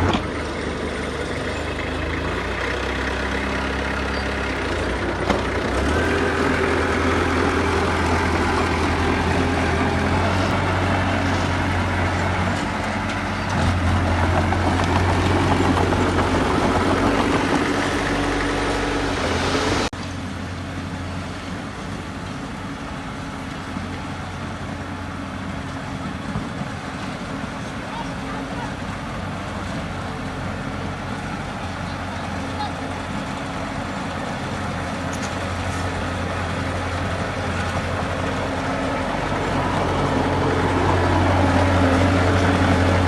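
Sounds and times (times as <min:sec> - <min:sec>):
heavy diesel engine running: 0:00.0 - 0:43.0
quieter engine running: 0:00.0 - 0:43.0.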